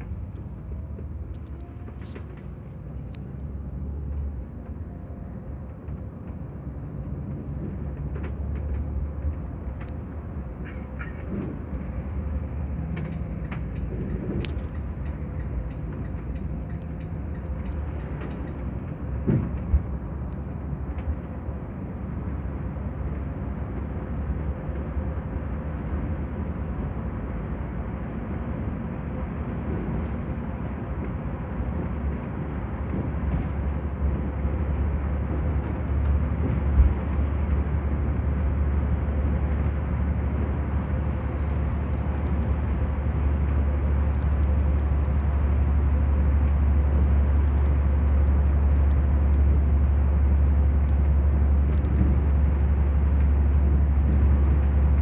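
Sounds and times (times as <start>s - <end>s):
engine and road rumble: 0.0s - 55.0s.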